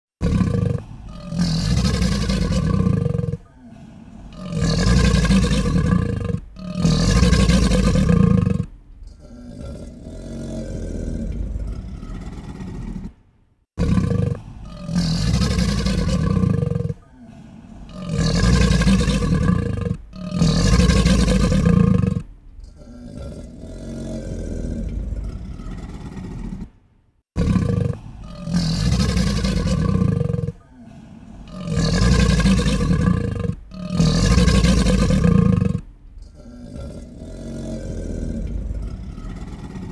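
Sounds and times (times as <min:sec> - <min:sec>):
alligator growling: 0:00.2 - 0:13.2, 0:13.8 - 0:39.9.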